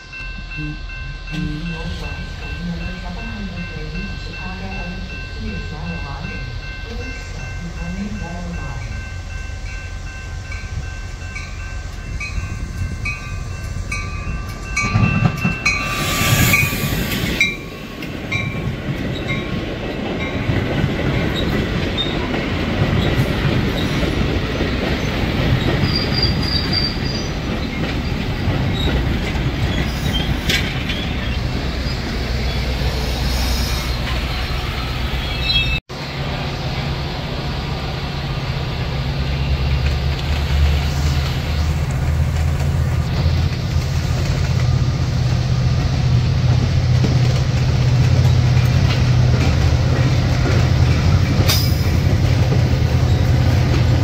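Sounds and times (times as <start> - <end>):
train passing rumble: 0.0 - 54.0.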